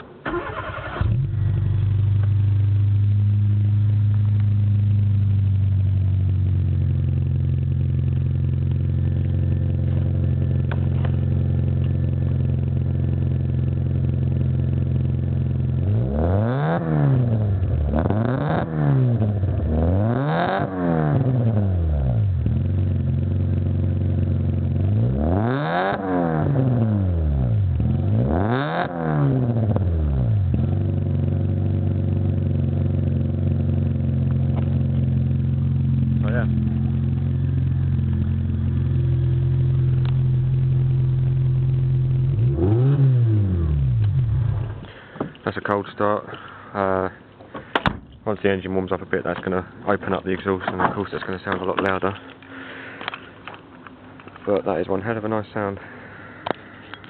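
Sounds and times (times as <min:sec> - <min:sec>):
car engine idling and revving: 0:00.0 - 0:48.2.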